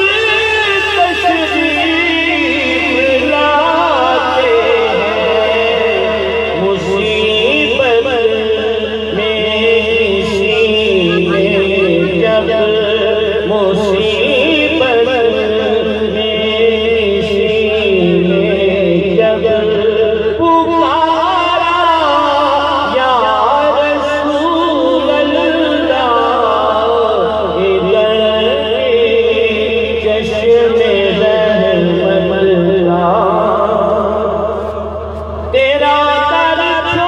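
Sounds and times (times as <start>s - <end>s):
man singing devotional poetry: 0.0s - 37.0s.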